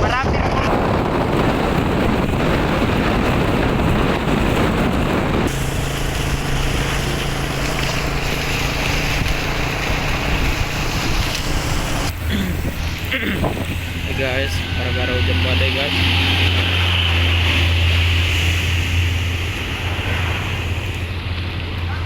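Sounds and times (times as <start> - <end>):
storm wind buffeting microphone: 0.0 - 22.0.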